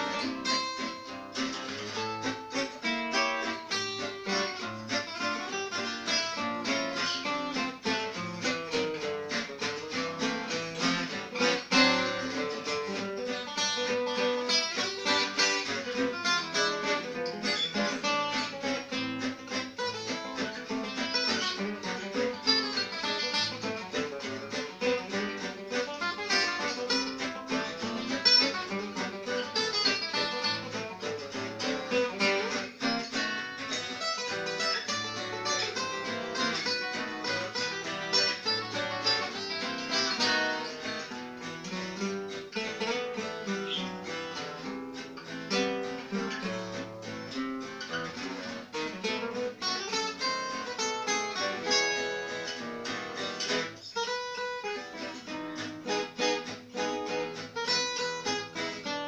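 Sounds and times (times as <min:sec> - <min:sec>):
two acoustic guitars playing waltz: 0:00.0 - 0:59.0.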